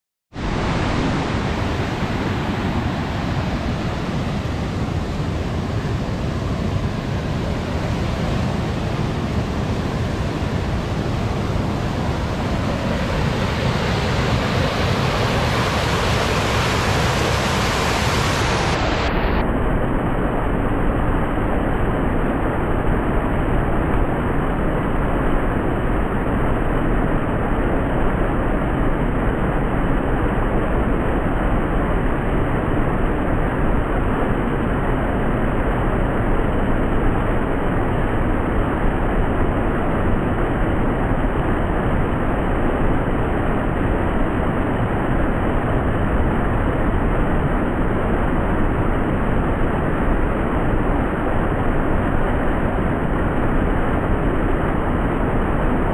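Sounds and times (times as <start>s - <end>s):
waterfall rushing over rocks: 0.4s - 55.9s.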